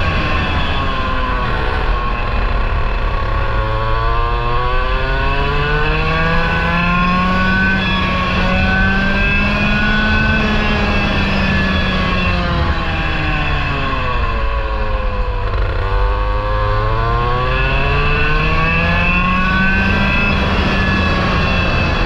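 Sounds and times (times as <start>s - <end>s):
kart engine revving: 0.0s - 22.0s.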